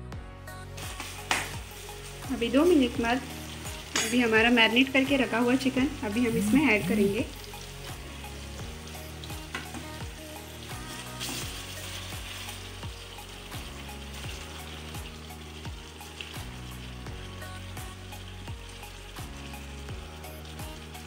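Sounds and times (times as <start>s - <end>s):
chicken sizzling in hot oil: 0.6s - 21.0s.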